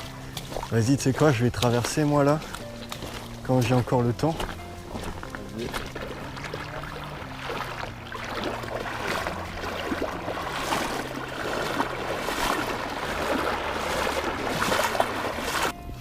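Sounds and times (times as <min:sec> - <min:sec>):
water splashing around wading legs: 0:00.0 - 0:15.8.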